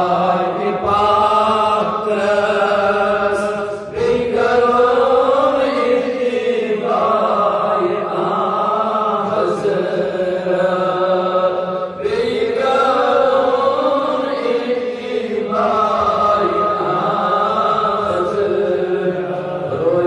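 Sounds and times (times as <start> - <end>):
man chanting into microphone: 0.0 - 20.0.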